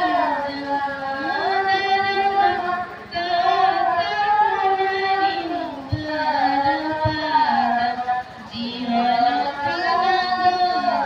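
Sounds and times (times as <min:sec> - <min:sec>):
girl singing into microphone: 0:00.0 - 0:11.0.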